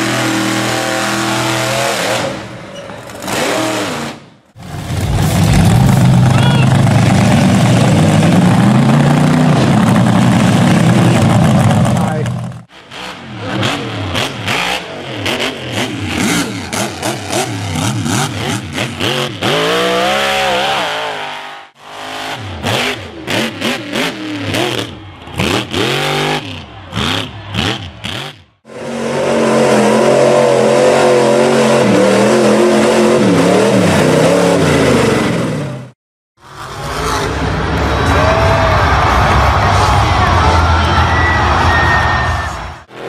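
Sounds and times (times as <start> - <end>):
truck engines revving: 0.0 - 43.0.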